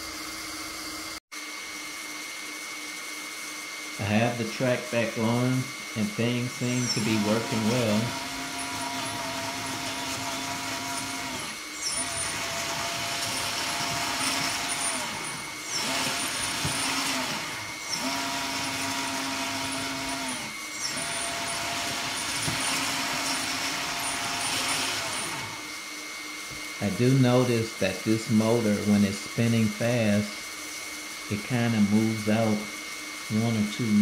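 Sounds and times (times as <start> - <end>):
toy excavator track motor whine: 3.8 - 34.0.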